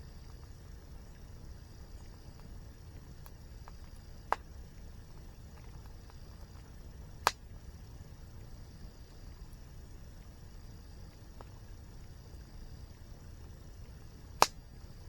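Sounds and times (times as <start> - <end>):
wood fire crackling: 0.0 - 15.0
fire pops: 0.1 - 15.0.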